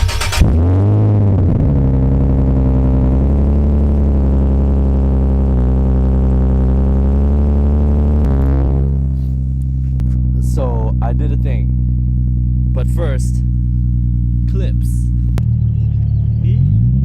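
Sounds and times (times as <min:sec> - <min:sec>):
car engine idling: 0:00.0 - 0:16.5.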